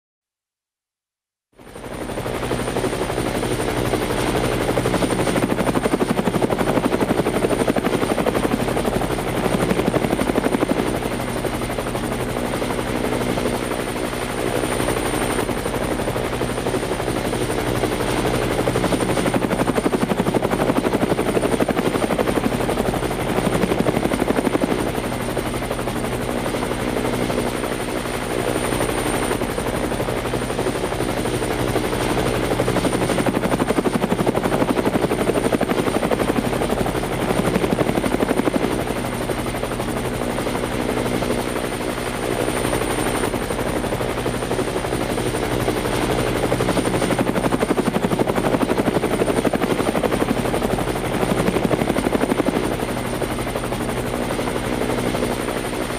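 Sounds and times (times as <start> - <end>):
aircraft rotors whirring: 1.6 - 55.9.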